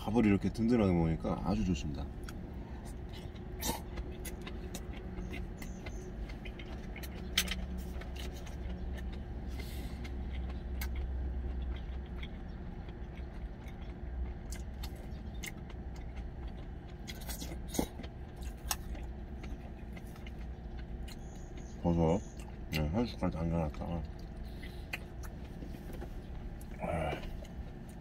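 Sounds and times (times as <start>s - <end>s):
sipping and chewing: 2.0s - 28.0s.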